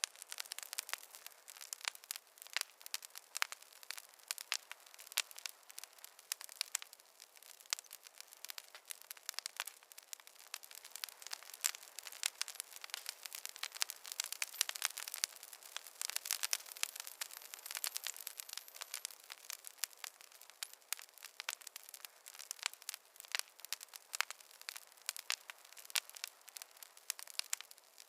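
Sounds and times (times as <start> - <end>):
soft hiss of fire: 0.0 - 28.0
wood fire crackling: 0.0 - 28.0.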